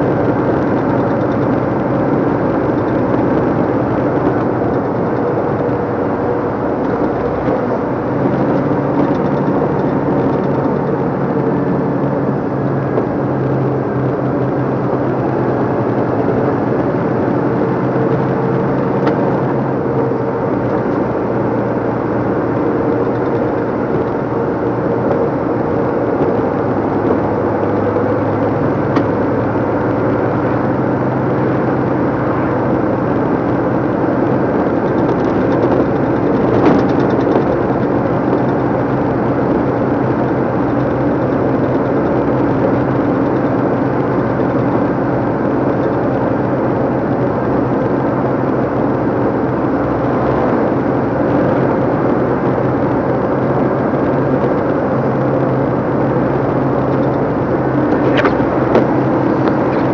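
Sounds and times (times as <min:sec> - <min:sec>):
diesel engine running: 0:00.0 - 0:59.9
tyre and road noise: 0:00.0 - 0:59.9.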